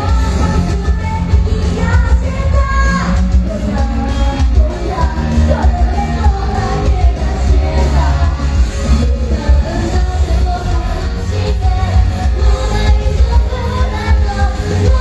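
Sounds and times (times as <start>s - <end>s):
live pop-rock band: 0.0s - 15.0s
person singing: 0.0s - 15.0s.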